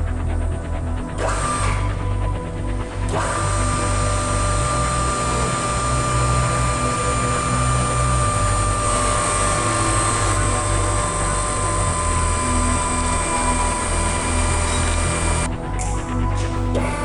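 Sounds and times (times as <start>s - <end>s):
background music with low notes: 0.0s - 17.0s
high motor whine: 0.0s - 17.0s.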